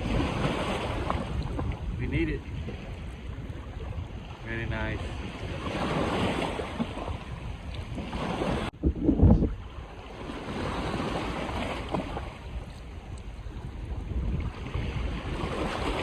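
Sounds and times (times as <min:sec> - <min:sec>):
surf washing on beach: 0:00.0 - 0:16.0
wind on microphone: 0:00.0 - 0:16.0.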